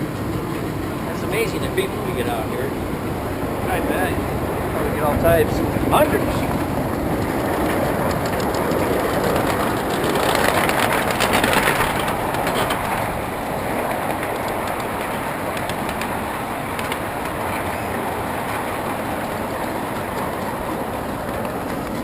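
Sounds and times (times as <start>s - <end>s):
miniature train wheels rumbling: 0.0s - 22.0s.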